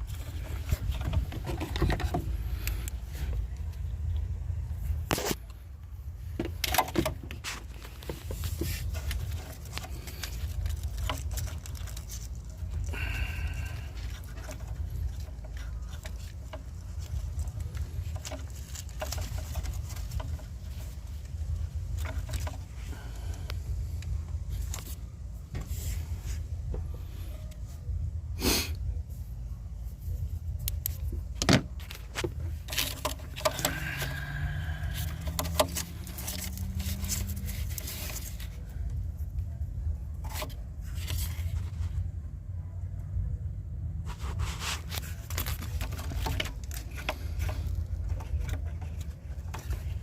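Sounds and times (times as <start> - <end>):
steady low rumble: 0.0 - 50.0.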